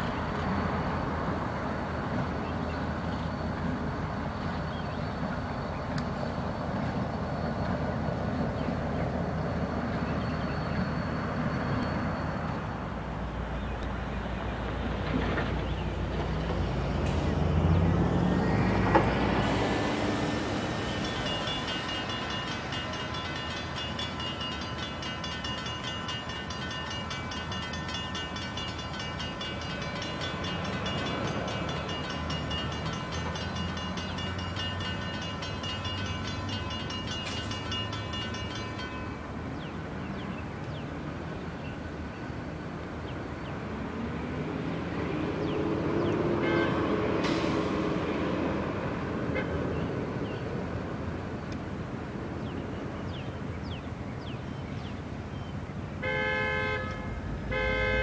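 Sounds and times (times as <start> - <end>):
diesel locomotive passing: 0.0 - 58.0.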